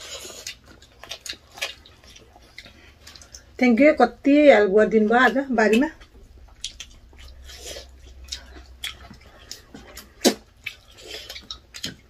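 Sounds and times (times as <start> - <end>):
chewing and mouth clicks: 0.0 - 3.6, 5.2 - 12.0.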